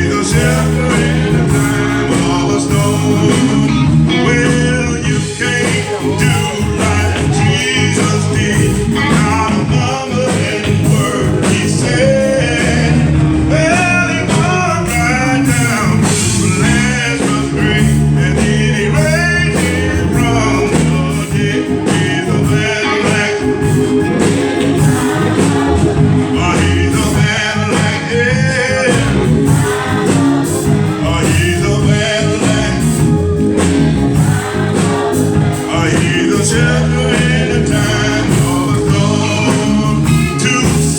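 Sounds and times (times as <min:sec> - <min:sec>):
band with steady beat: 0:00.0 - 0:40.9
singers: 0:00.0 - 0:40.9.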